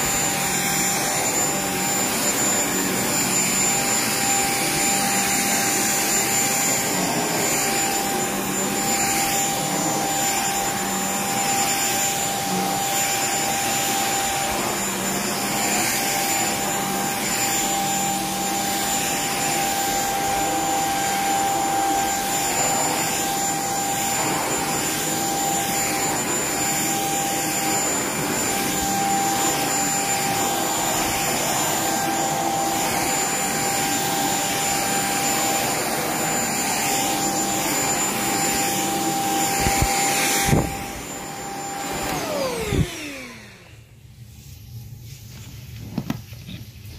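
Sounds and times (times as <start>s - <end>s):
vacuum cleaner running on a rug: 0.0s - 46.9s.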